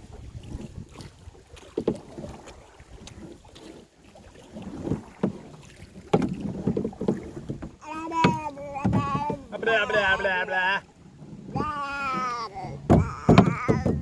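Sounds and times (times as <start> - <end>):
canoe paddles splashing in water: 0.0 - 14.0
paddle knocks: 0.4 - 14.0.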